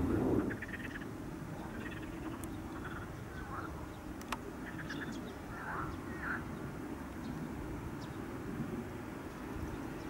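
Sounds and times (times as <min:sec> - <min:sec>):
jet engines rumbling: 0:00.0 - 0:10.0
birds chirping and trilling: 0:00.1 - 0:08.3.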